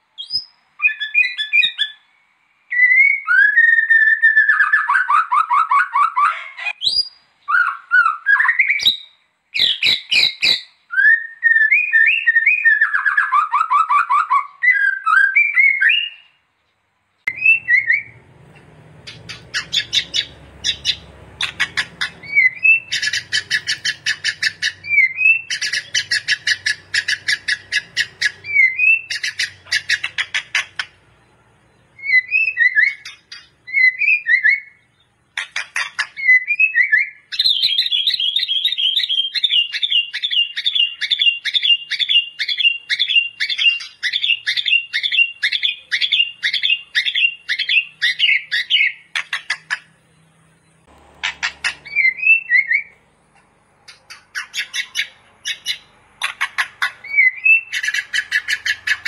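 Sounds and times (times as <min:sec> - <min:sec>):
bird singing: 0:00.2 - 0:59.0.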